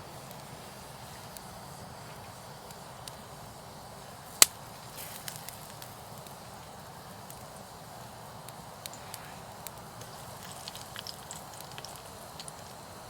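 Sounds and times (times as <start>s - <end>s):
wood campfire crackling: 0.0s - 13.0s.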